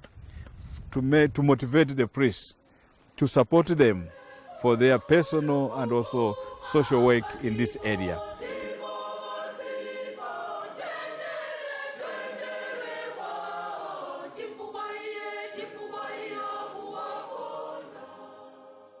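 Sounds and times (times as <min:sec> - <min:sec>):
choir singing: 0:03.6 - 0:19.0.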